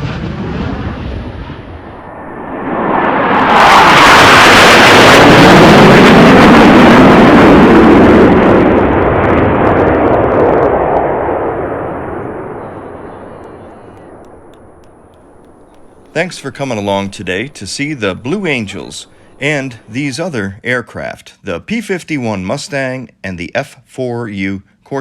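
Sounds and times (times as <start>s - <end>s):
jet flying past low: 0.0s - 20.3s.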